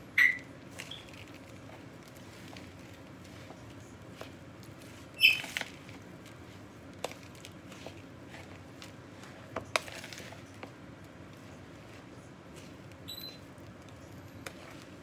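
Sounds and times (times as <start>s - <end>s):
hands squishing wet mixture: 0.0s - 15.0s.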